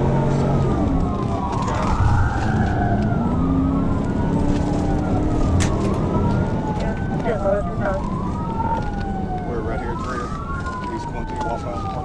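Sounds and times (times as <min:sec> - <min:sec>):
car engine and road noise: 0:00.0 - 0:12.0
police siren wailing: 0:00.0 - 0:12.0.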